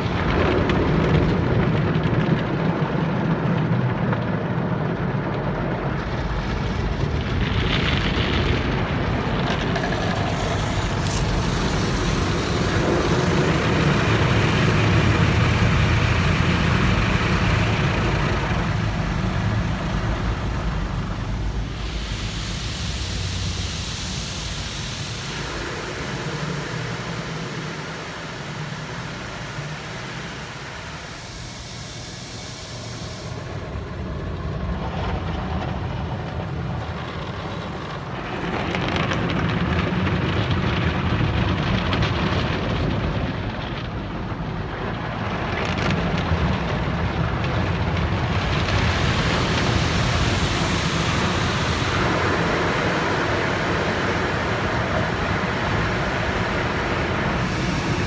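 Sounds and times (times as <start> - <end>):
car wash water spray: 7.4 - 42.4, 45.2 - 58.0.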